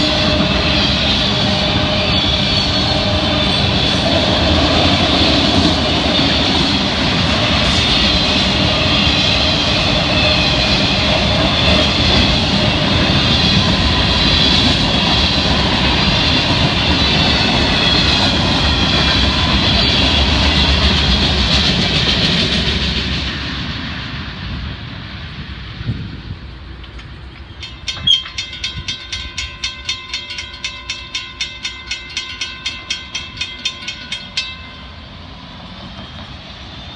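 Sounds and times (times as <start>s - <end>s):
freight train wheels rumbling: 0.0s - 36.9s.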